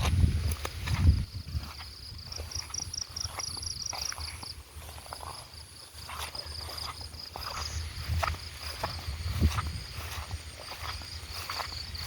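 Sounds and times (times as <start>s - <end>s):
frogs calling: 1.0s - 12.0s.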